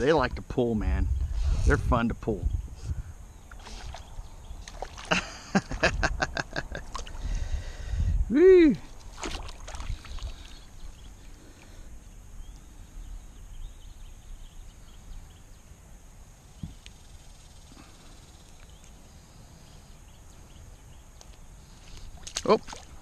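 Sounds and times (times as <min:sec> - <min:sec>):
faint outdoor background noise: 0:00.0 - 0:23.0.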